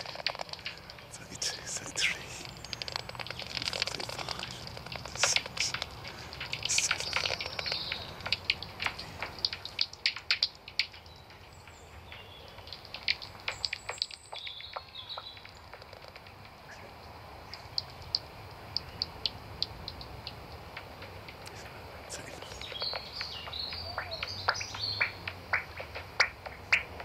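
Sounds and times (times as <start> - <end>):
bats squeaking and clicking: 0.0 - 11.0, 11.6 - 16.8, 21.4 - 27.0.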